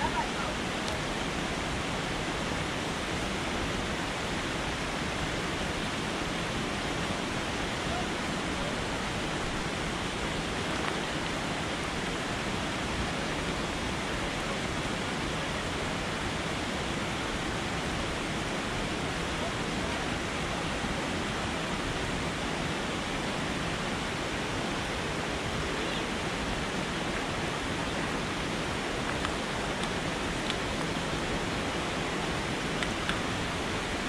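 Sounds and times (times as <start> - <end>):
mountain water rushing: 0.0 - 34.0.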